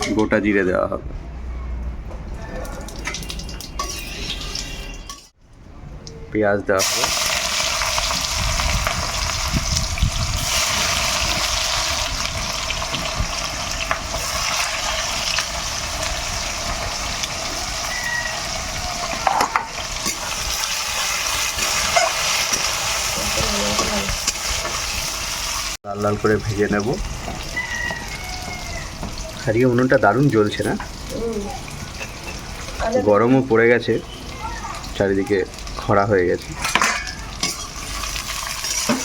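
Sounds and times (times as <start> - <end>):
onions sizzling in oil: 6.8 - 39.0.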